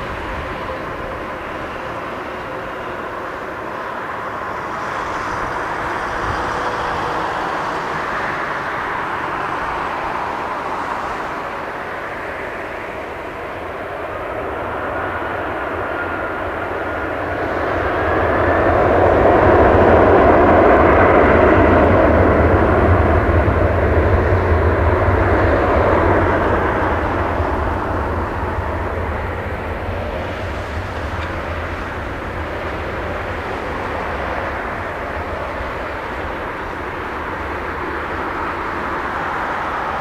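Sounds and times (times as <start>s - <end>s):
jet engines rumbling and roaring: 0.0s - 40.0s.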